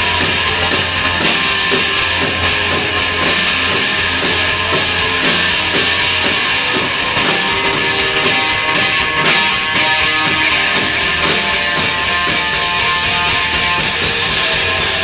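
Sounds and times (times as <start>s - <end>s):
distorted electric guitars: 0.0s - 15.0s
drums: 0.0s - 15.0s.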